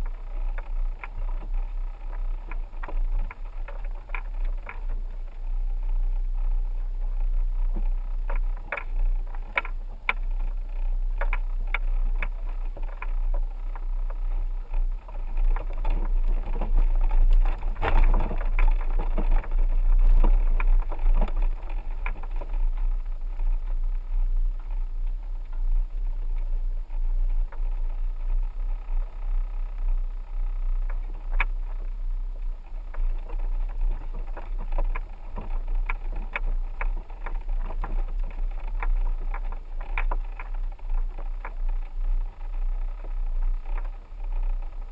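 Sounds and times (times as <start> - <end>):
vehicle low rumble: 0.0 - 44.9.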